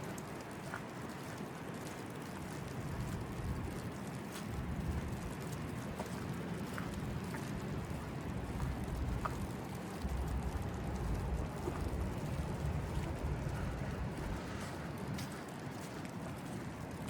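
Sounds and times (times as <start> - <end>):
low rumble of traffic: 0.1 - 17.0.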